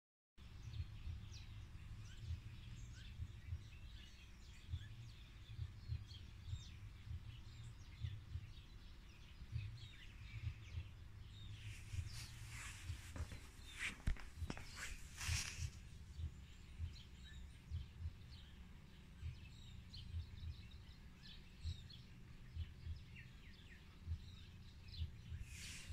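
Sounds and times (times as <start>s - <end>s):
small birds chirping: 0.4s - 25.9s.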